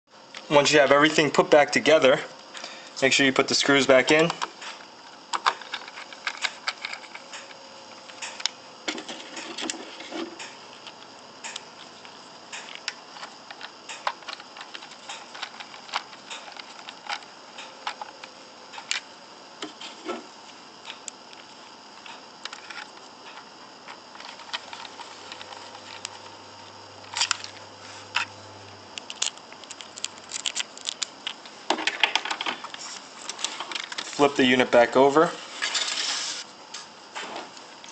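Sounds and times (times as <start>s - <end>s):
faint low hum: 0.3s - 36.0s.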